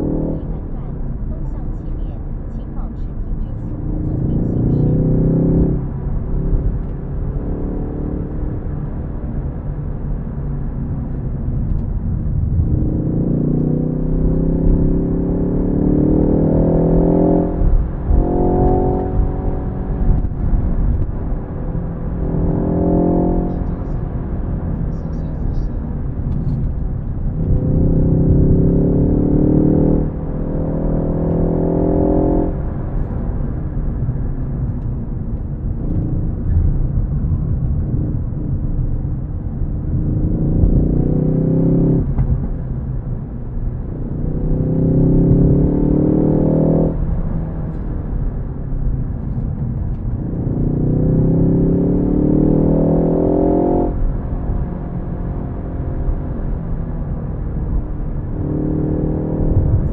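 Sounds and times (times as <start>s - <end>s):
car engine accelerating hard: 0.0s - 59.9s
road and tyre noise: 0.0s - 59.9s.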